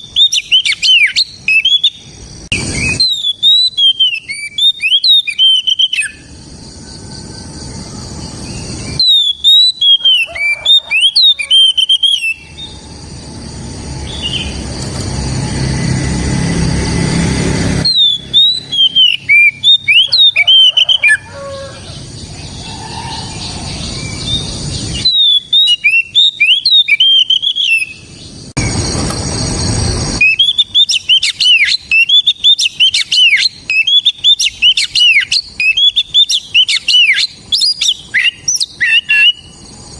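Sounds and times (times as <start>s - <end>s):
bird singing whistled notes: 0.0s - 14.8s, 17.7s - 29.4s, 30.2s - 39.9s.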